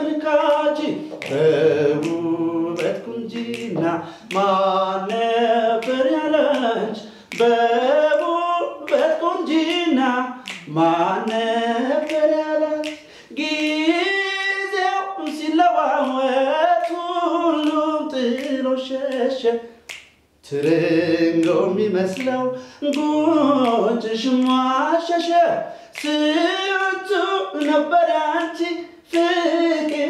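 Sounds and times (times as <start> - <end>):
man singing unaccompanied: 0.0 - 30.0.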